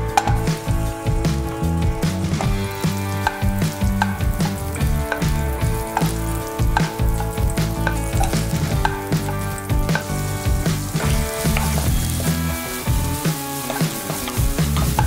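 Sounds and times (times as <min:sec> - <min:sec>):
background music with bass: 0:00.0 - 0:15.0
butter sizzling in a pan: 0:00.0 - 0:15.0
wooden spatula stirring: 0:02.4 - 0:15.0.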